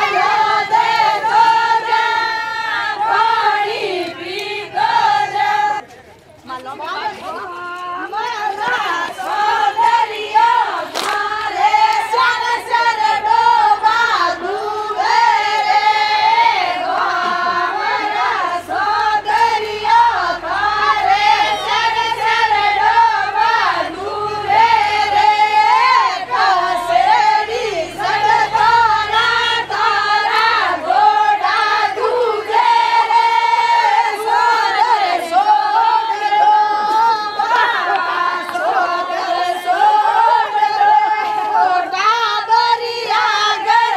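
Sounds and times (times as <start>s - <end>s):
women singing folk song: 0.0s - 5.9s, 6.5s - 43.9s.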